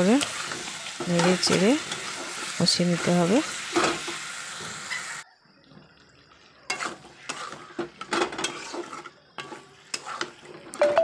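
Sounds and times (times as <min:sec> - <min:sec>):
spatula scraping in a pan: 0:00.0 - 0:05.2, 0:06.7 - 0:10.8
light sizzle: 0:00.0 - 0:11.0.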